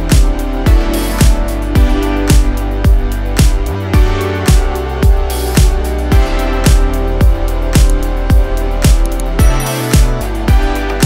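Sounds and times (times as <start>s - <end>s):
music with booming kick drum: 0.0s - 11.0s.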